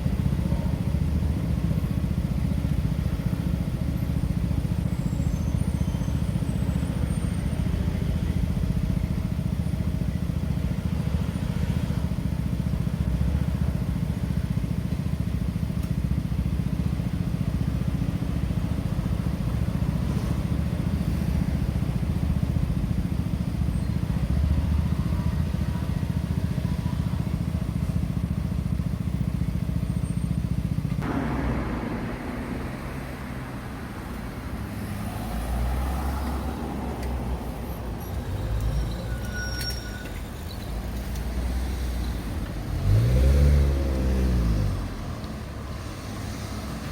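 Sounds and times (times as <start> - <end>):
road traffic engine rumble: 0.0 - 46.9.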